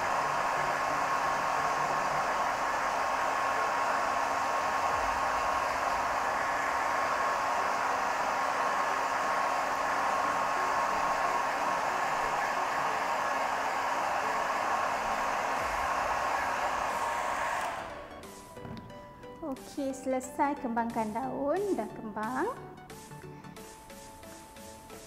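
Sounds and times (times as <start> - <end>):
hair dryer blowing with whine: 0.0 - 19.8, 22.9 - 25.0.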